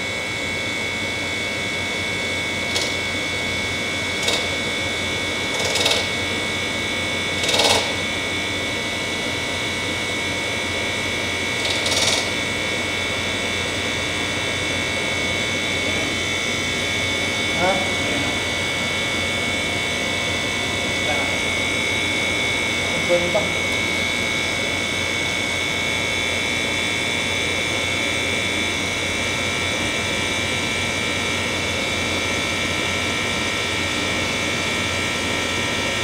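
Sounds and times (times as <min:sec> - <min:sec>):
air conditioner drone and whine: 0:00.0 - 0:36.0.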